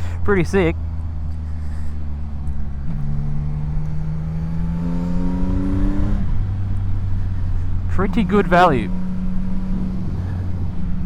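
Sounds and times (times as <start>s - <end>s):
low steady rumble: 0.0s - 5.4s, 6.0s - 11.0s
motorcycle engine accelerating: 0.0s - 11.0s.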